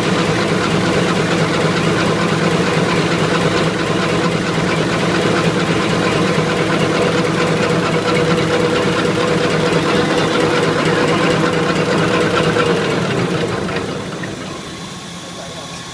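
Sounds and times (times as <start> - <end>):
paper cutting machine clatter: 1.1 - 14.7.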